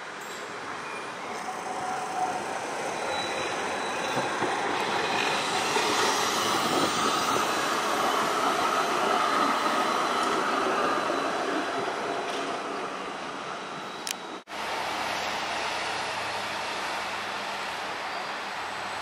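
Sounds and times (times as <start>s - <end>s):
trams running on rails: 0.0s - 19.0s.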